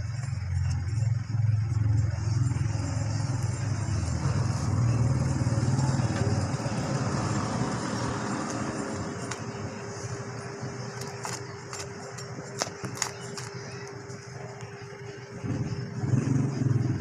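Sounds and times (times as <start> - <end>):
soft background hum: 0.0 - 17.0
vehicle engine running: 0.0 - 17.0.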